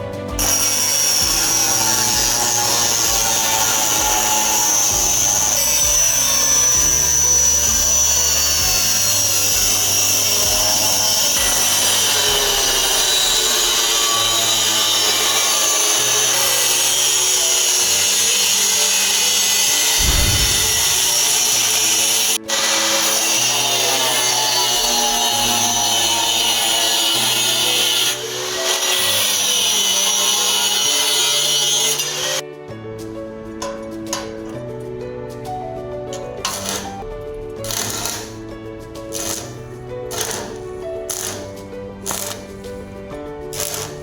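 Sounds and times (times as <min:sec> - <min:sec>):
power tool working on metal: 0:00.0 - 0:32.4, 0:36.4 - 0:37.0, 0:37.6 - 0:38.5, 0:39.1 - 0:42.6, 0:43.5 - 0:44.0
background music: 0:00.0 - 0:44.0.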